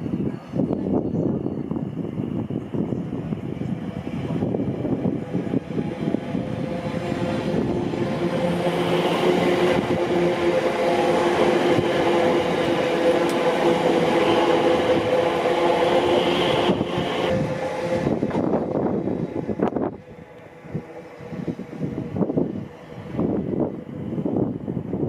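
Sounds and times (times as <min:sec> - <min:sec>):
wheels rumbling on rail: 0:00.0 - 0:25.0
electric train traction whine: 0:00.6 - 0:25.0.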